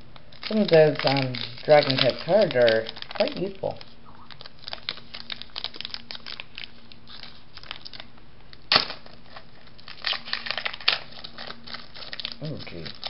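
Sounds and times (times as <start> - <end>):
trading cards rustling and snapping: 0.2 - 13.0.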